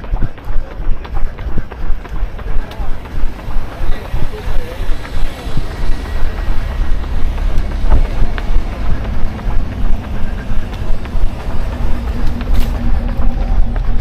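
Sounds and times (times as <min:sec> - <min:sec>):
running footfalls: 0:00.0 - 0:14.0.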